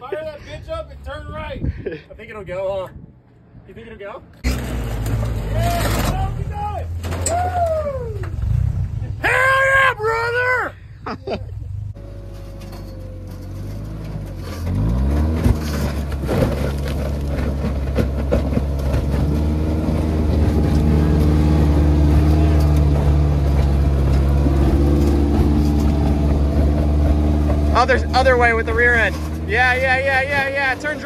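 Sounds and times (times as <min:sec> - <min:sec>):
buggy engine revving: 0:04.4 - 0:10.5, 0:11.5 - 0:31.0.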